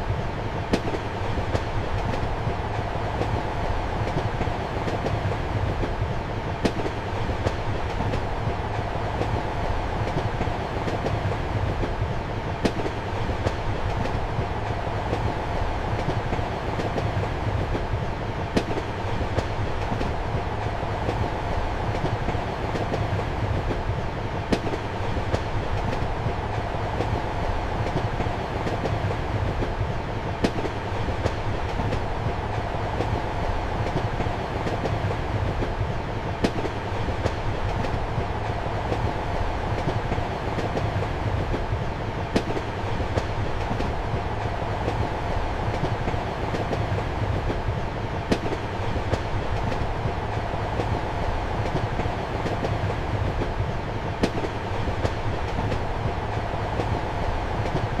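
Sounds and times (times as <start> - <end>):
train rumble inside compartment: 0.0 - 58.0.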